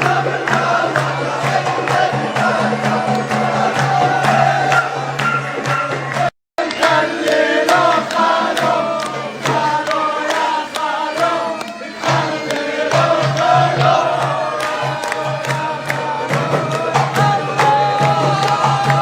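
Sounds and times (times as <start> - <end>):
pounding drumbeat: 0.0 - 19.0
voices singing: 0.0 - 19.0.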